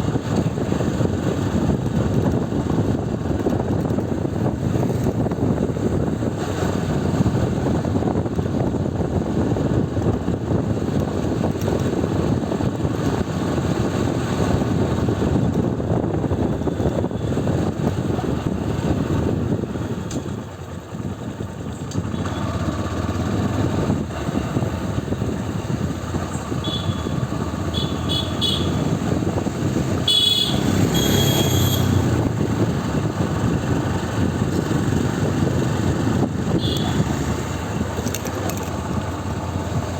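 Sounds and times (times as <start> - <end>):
motorcycle engine rumble: 0.0 - 39.9
wind and road rush: 0.0 - 39.9.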